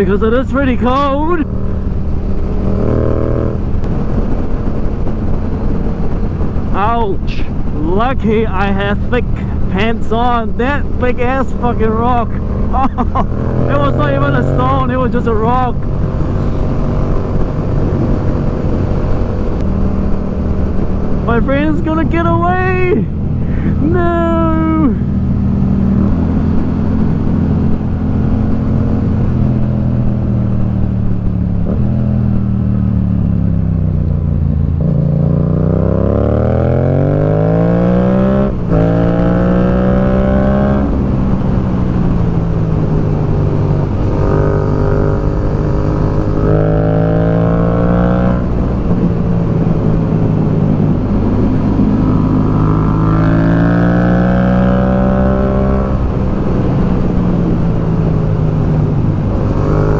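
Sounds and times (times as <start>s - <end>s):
motorcycle engine revving: 0.0s - 7.7s, 8.5s - 59.9s.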